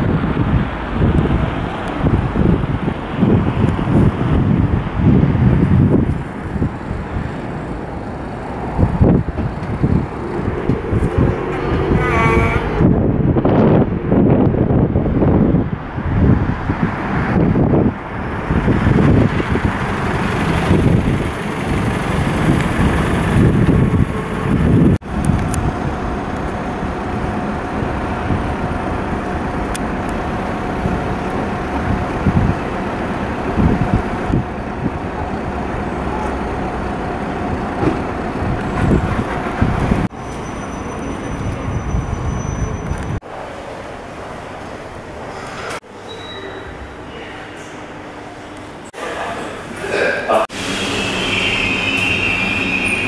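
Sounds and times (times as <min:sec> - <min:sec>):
wind rumbling on microphone: 0:00.0 - 0:45.8
road traffic passing: 0:00.0 - 0:53.0.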